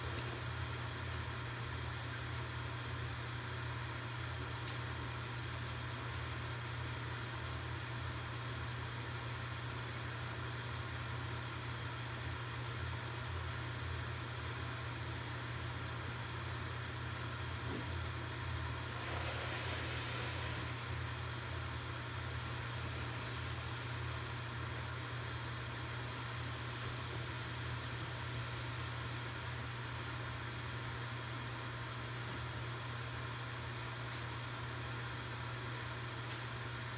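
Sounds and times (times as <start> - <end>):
campfire rumble and hiss: 0.0 - 36.9.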